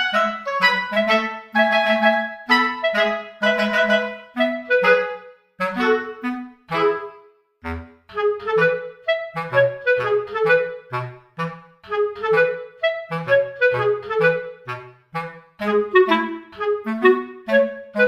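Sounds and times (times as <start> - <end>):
clarinet tune: 0.0 - 18.0.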